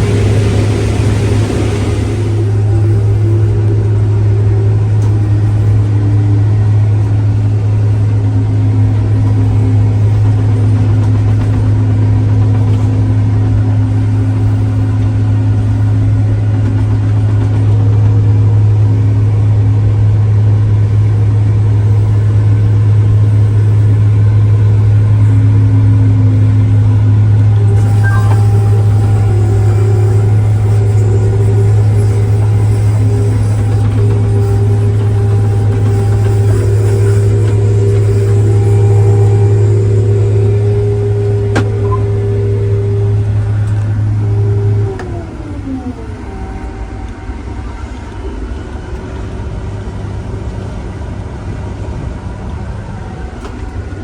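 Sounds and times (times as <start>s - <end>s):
tractor engine running under load: 0.0s - 46.8s.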